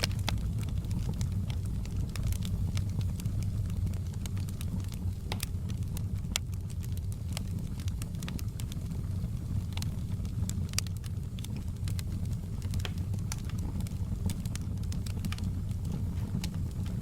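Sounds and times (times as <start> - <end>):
low rumble of flames: 0.0 - 17.0
sharp pops and snaps: 0.0 - 17.0
wood fire crackling: 0.0 - 17.0.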